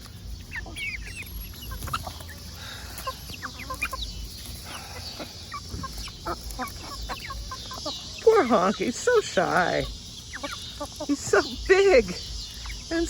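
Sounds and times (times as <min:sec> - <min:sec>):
hens clucking and squawking: 0:00.0 - 0:13.0.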